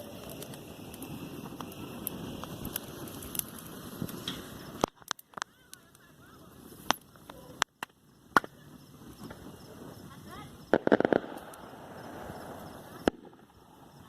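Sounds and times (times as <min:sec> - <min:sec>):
bonfire crackling: 0:00.0 - 0:14.0
fire popping: 0:00.0 - 0:14.0.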